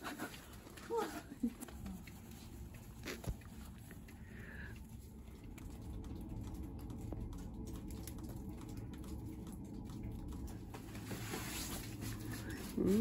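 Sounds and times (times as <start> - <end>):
low rumble: 1.8 - 13.0.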